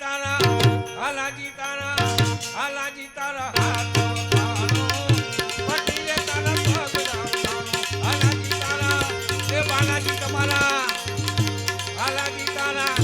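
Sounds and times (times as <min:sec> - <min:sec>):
tabla rhythm: 0:00.0 - 0:13.0.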